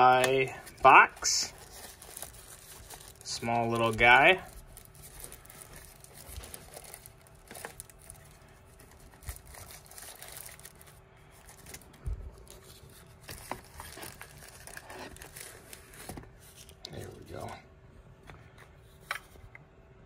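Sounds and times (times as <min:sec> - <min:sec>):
wrapping rustling and crinkling: 0:00.0 - 0:17.6.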